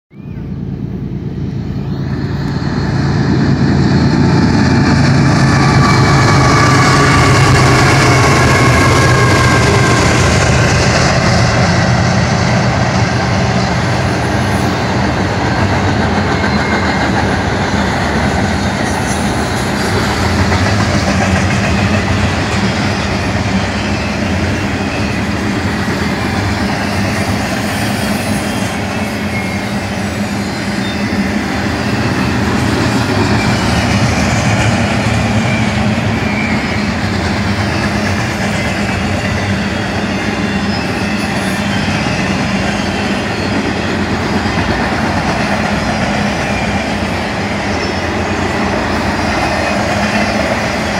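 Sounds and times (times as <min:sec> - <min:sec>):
diesel locomotive passing: 0:00.1 - 0:50.9
steel wheels rushing on rails: 0:00.2 - 0:50.9.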